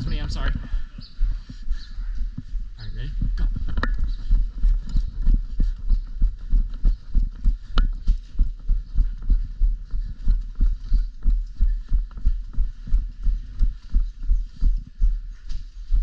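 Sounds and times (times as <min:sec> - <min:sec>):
running footsteps: 0:00.0 - 0:16.0.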